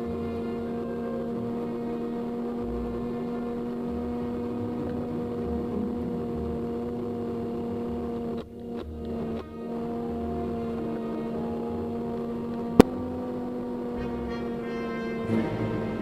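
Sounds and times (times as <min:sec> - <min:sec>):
humming drone with pitched tone: 0:00.0 - 0:16.0.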